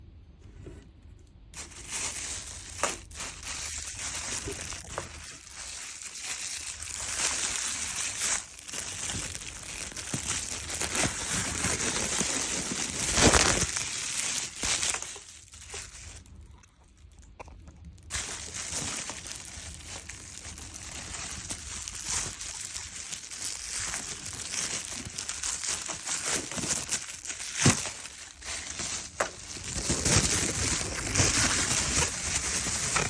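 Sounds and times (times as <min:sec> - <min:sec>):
crisp shells crunching: 0:01.5 - 0:33.0.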